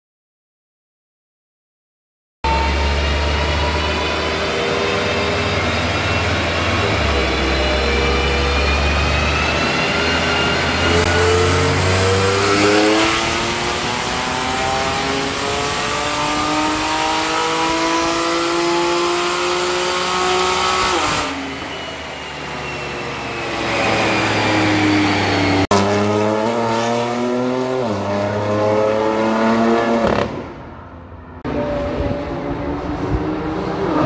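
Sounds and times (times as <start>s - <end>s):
car engine revving at full throttle: 2.5s - 30.7s, 31.4s - 34.0s.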